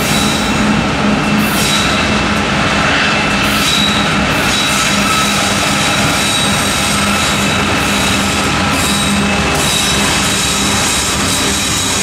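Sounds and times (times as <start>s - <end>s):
diesel locomotive engines rumbling: 0.0s - 12.0s
steel wheels rolling on rail: 0.0s - 12.0s.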